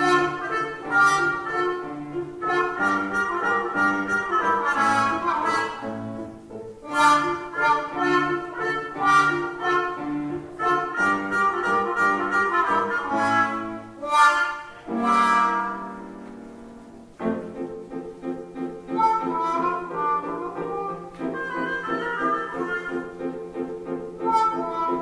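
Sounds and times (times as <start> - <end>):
trumpet and trombone duet: 0.0 - 16.2, 18.9 - 23.3, 24.2 - 25.0
piano accompaniment: 0.0 - 25.0.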